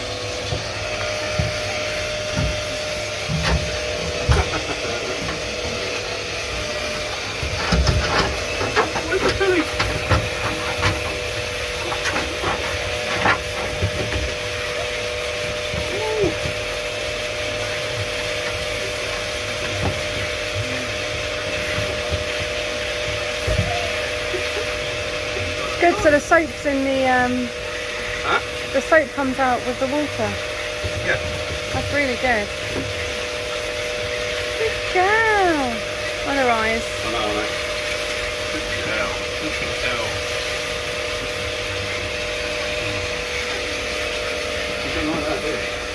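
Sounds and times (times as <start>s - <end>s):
machine hum: 0.0s - 45.9s
pump whine: 0.0s - 45.9s
water spraying from nozzle: 0.0s - 45.9s.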